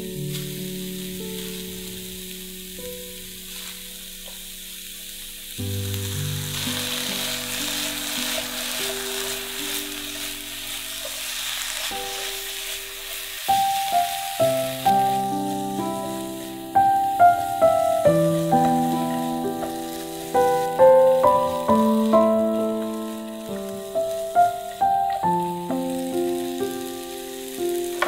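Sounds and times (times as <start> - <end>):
food sizzling in hot oil: 0.0 - 28.0
soft background music: 0.0 - 28.0.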